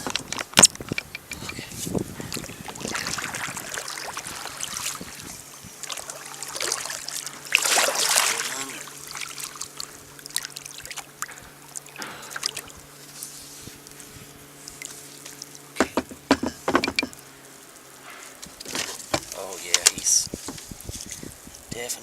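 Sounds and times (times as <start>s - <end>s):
water splashing and trickling: 0.0s - 21.9s.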